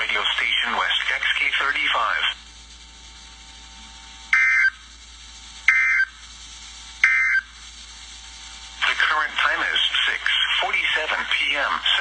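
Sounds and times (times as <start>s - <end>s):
receiver hiss: 0.0s - 12.0s.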